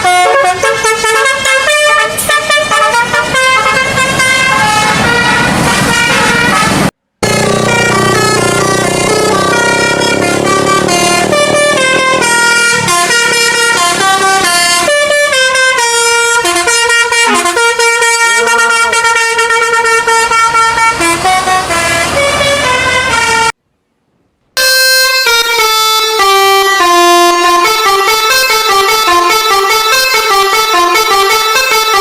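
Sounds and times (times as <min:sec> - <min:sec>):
multi-tone air horn melody: 0:00.0 - 0:23.6, 0:24.6 - 0:32.0.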